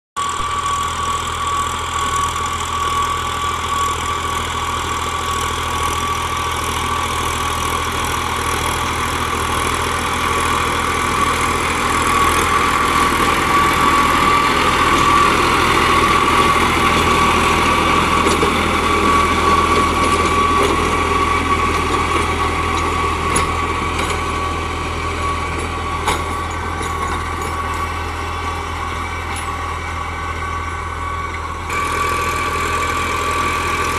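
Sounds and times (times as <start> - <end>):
tractor diesel engine running: 0.2 - 33.9.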